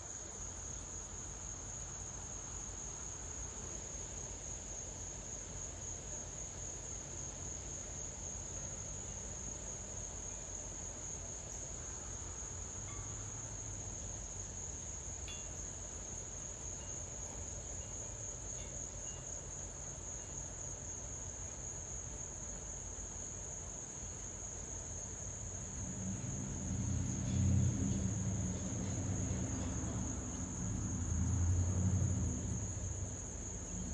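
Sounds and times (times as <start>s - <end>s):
crickets trilling: 0.0s - 33.9s.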